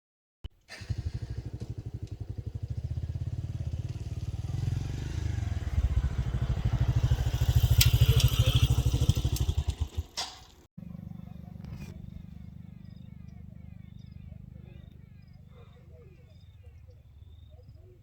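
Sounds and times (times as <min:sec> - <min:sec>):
engine low thumping: 0:00.7 - 0:18.0.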